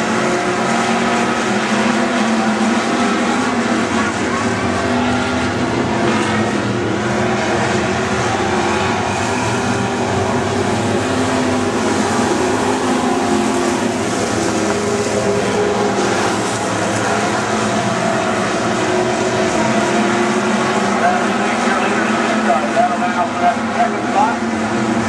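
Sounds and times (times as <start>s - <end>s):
race car engines running hard: 0.0s - 25.0s.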